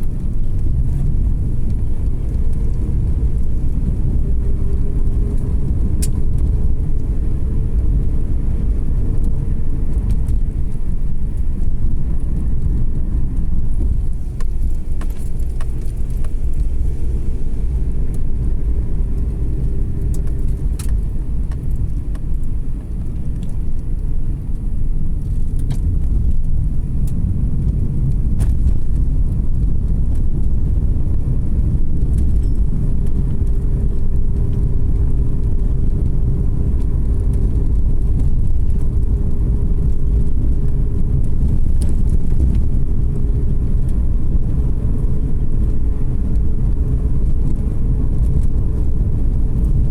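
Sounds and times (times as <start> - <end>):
car road rumble: 0.0 - 49.9
faint engine hum: 0.0 - 49.9.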